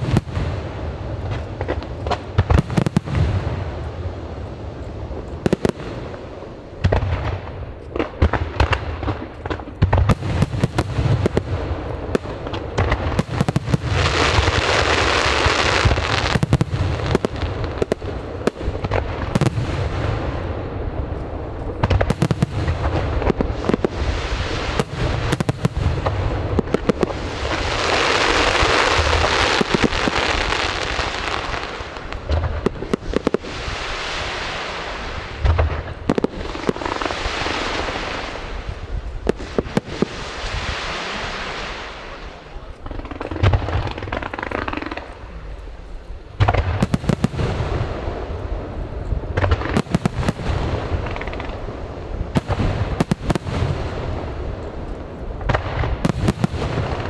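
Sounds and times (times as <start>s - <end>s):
fireworks bangs and booms: 0.0s - 57.0s
fireworks crackling: 0.0s - 57.0s.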